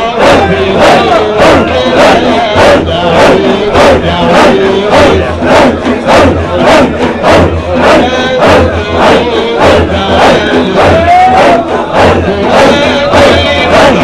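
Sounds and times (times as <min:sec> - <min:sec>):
rhythmic breathy group chant: 0:00.0 - 0:14.0
voices singing a melody: 0:00.0 - 0:14.0.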